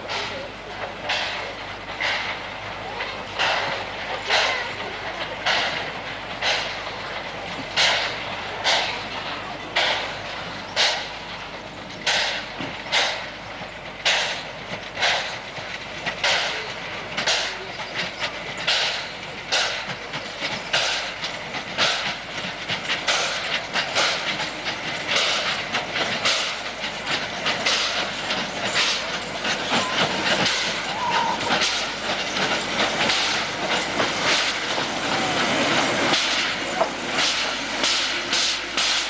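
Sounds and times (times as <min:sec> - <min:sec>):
steam hissing: 0:00.0 - 0:39.0
steam locomotive chuffing: 0:00.0 - 0:39.0.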